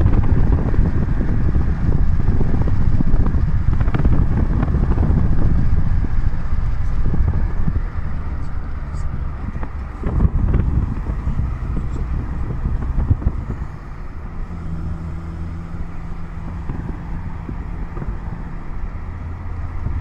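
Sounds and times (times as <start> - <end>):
road and wind noise inside car: 0.0 - 20.0.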